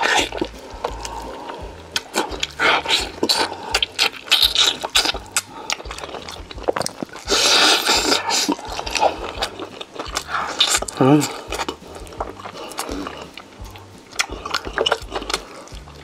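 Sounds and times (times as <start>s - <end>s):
chewing and crunching: 0.0s - 16.0s
mouth clicks and scrapes: 0.0s - 16.0s.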